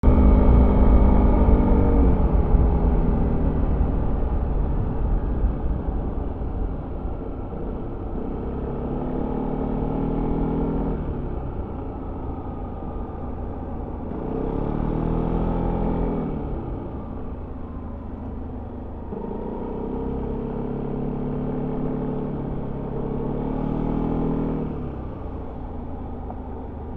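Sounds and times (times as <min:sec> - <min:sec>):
steady low rumble: 0:00.0 - 0:23.5, 0:24.6 - 0:26.9.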